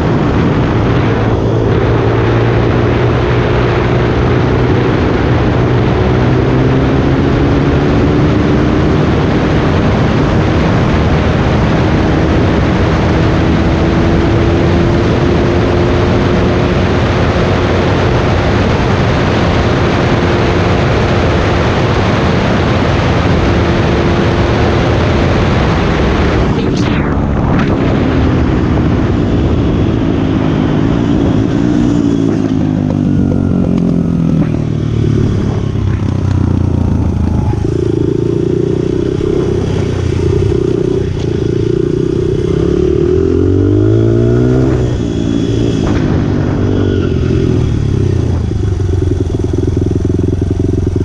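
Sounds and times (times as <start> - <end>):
motorcycle engine cruising: 0.0 - 51.0
wind noise on microphone: 0.0 - 51.0.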